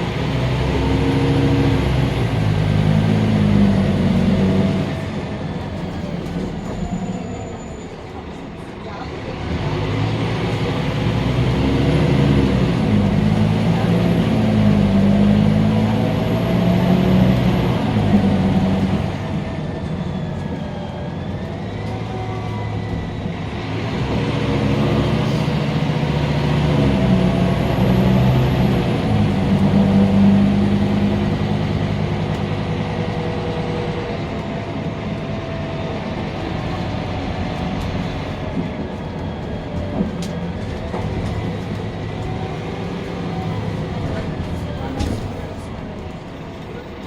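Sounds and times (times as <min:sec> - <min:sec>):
bus diesel engine under load: 0:00.0 - 0:47.0.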